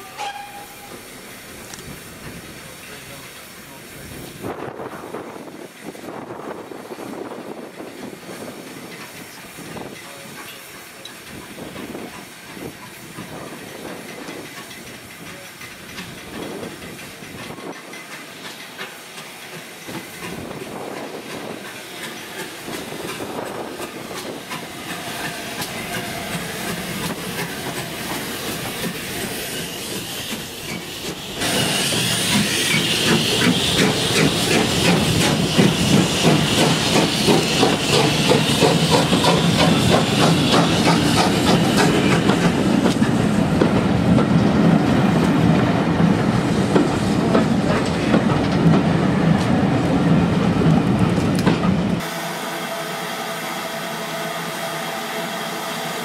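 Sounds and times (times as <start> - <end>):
approaching train: 0.0 - 56.0
steam locomotive hissing: 0.0 - 56.0.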